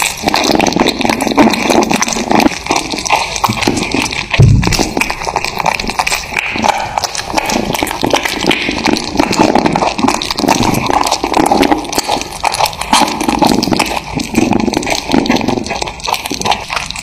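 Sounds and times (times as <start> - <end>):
kittens chewing meat: 0.0 - 17.0.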